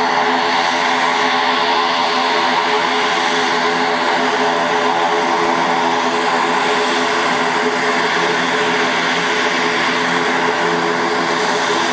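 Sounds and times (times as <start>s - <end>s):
turboprop engines droning: 0.0s - 11.9s.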